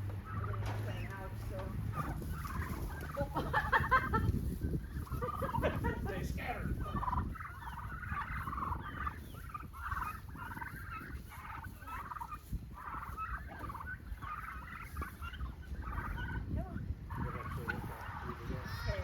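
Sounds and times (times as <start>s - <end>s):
turkeys calling: 0.0s - 19.0s.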